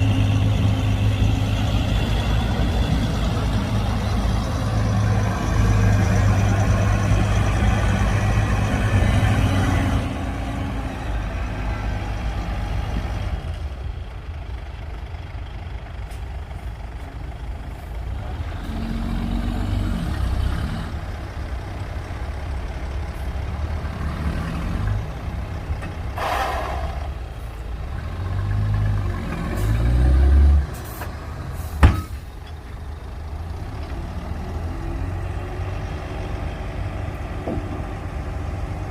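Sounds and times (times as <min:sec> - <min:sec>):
heavy diesel machinery working: 0:00.0 - 0:38.9.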